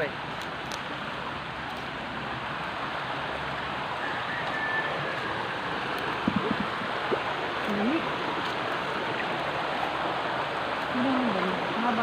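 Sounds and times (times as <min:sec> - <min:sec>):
stream running water: 0:00.0 - 0:12.0.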